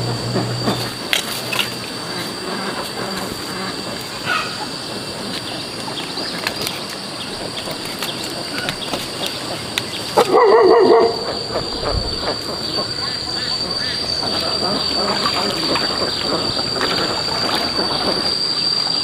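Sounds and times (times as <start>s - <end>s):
loud animal call: 0.0s - 5.9s, 7.2s - 19.0s.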